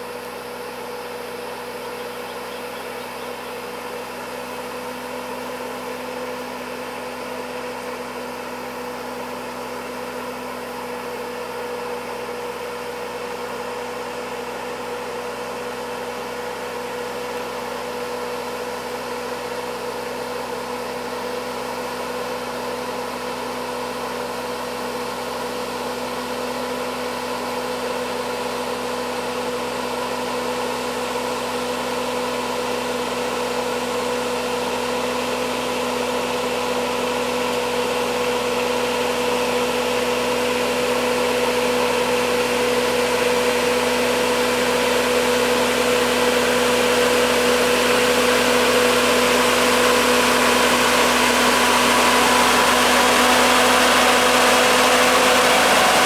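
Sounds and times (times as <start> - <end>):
diesel truck engine droning: 0.0 - 56.0.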